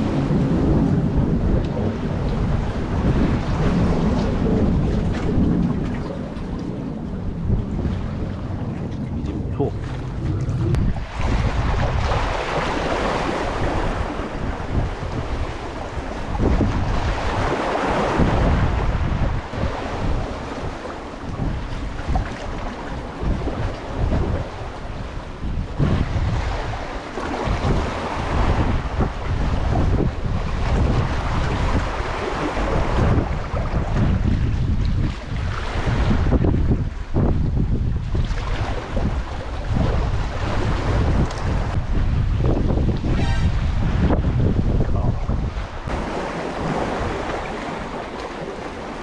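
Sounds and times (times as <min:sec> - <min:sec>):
sea surf washing on concrete: 0:00.0 - 0:49.0
wind buffeting microphone: 0:00.0 - 0:49.0.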